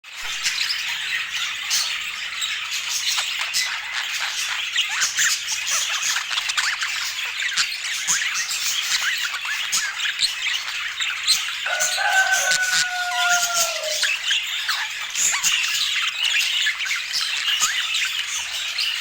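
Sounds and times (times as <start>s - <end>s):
budgerigars chattering: 0.3s - 19.0s.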